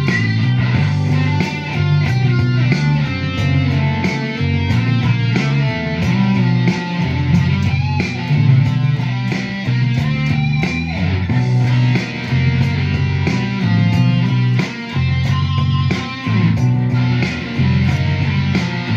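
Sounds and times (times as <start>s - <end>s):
electric guitar rock riff: 0.0s - 18.9s
steady beat: 0.0s - 18.9s.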